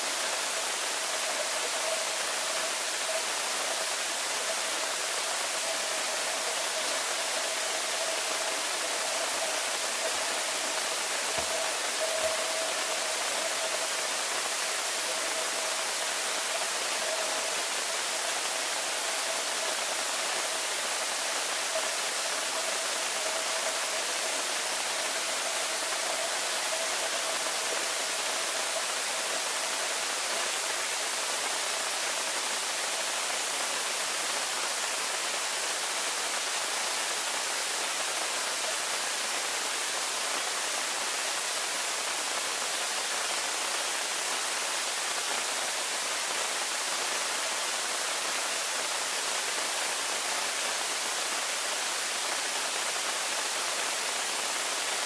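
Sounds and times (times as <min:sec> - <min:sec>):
faint steady tone: 0:00.0 - 0:55.0
underwater pool water hiss: 0:00.0 - 0:55.0.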